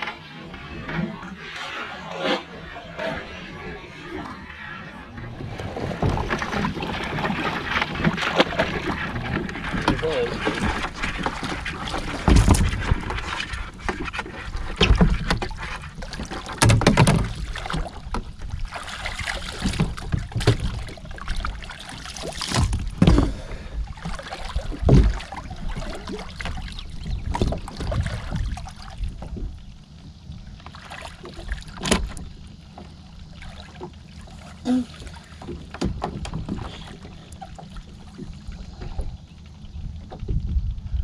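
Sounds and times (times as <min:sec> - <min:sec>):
water splashing around kayak: 0:00.0 - 0:41.0.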